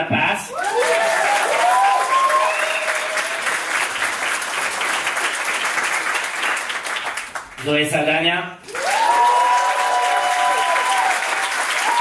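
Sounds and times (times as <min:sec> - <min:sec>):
audience applause: 0:00.6 - 0:07.6, 0:08.6 - 0:12.0.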